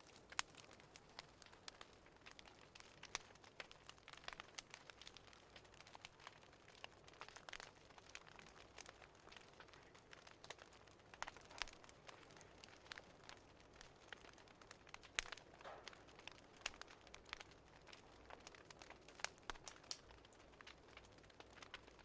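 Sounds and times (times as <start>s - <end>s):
fire crackling with faint snaps: 0.0s - 22.0s.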